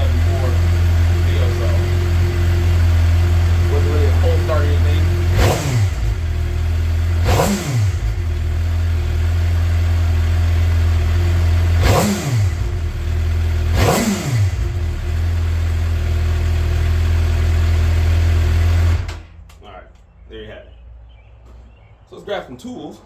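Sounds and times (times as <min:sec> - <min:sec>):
motorcycle engine idling: 0:00.0 - 0:19.4
motorcycle throttle blips: 0:00.0 - 0:20.2.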